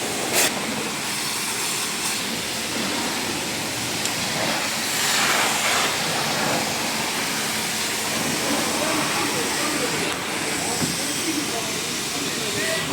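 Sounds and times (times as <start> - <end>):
pressure washer spraying: 0.0 - 12.9.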